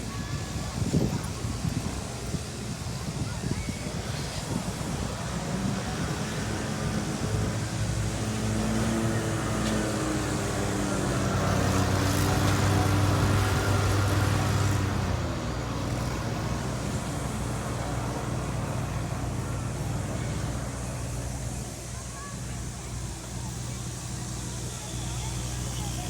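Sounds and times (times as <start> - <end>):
passing vehicle engine hum: 4.0 - 26.0.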